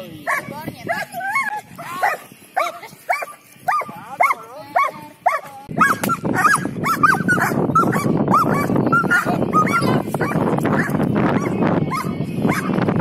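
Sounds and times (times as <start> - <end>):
dog whining and yipping: 0.3 - 3.9, 4.8 - 12.7.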